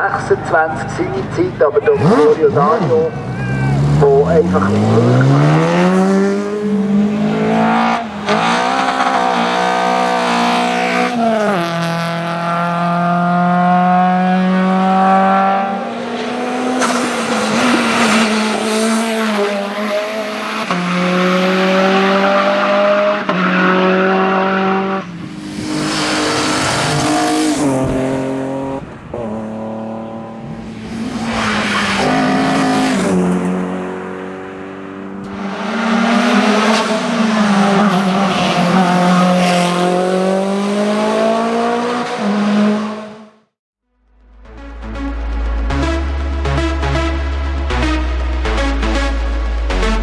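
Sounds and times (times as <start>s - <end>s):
racing car engine revving: 0.0s - 43.5s.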